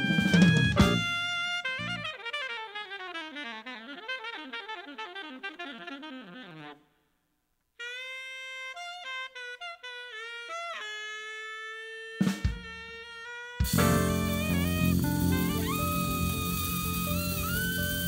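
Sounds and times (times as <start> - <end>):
alto saxophone playing jazz: 0.0 - 18.0.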